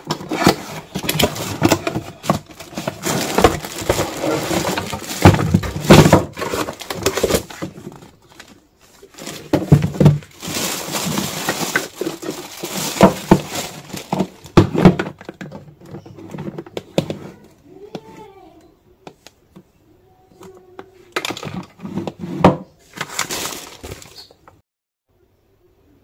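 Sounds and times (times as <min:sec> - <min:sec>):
cardboard and plastic wrap rustling: 0:00.0 - 0:18.4, 0:20.4 - 0:24.4.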